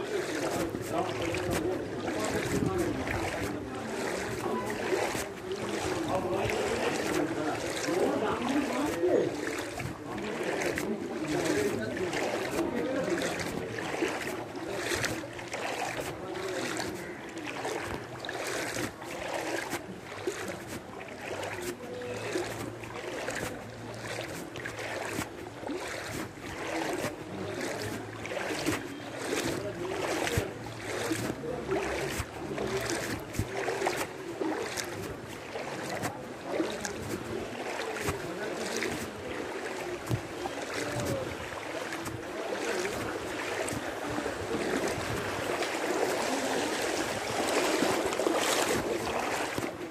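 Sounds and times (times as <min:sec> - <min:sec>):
wading through water: 0:00.0 - 0:49.9.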